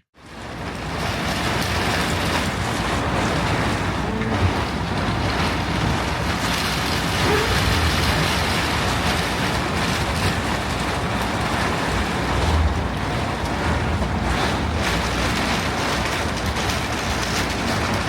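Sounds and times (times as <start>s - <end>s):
wind: 0.0s - 18.0s
lake surf: 0.2s - 18.0s
wind buffeting microphone: 0.4s - 18.0s.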